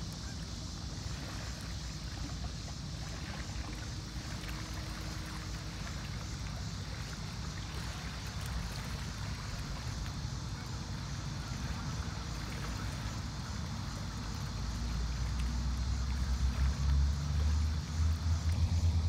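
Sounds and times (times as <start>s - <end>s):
small waves lapping against rocks: 0.0s - 19.0s.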